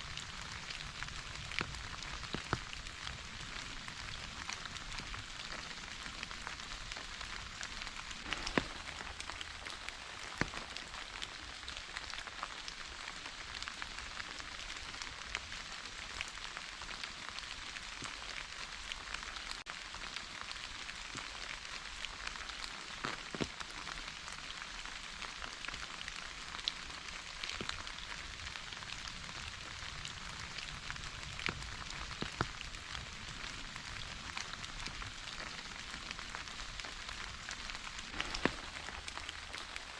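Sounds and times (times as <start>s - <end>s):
raindrop ticks: 0.0s - 39.9s
steady rain hissing: 0.0s - 39.9s.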